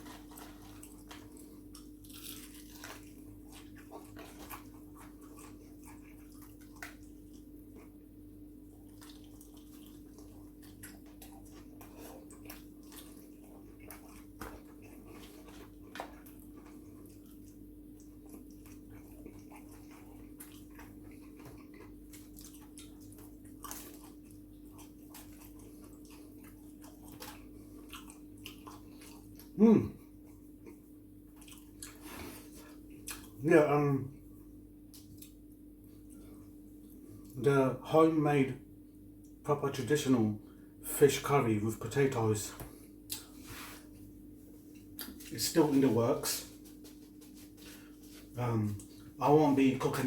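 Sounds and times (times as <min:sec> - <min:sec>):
chewing and biting food: 0:00.0 - 0:33.4, 0:34.4 - 0:37.4, 0:42.6 - 0:49.2.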